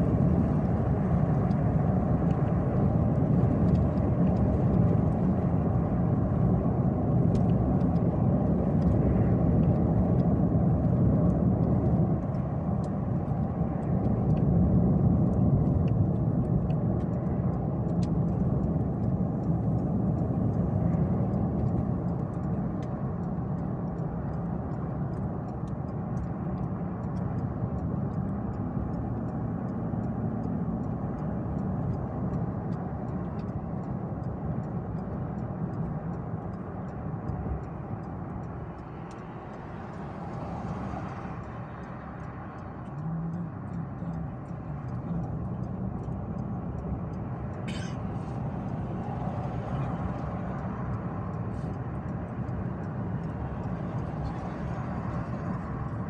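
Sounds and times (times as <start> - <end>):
car road noise: 0.0 - 56.0.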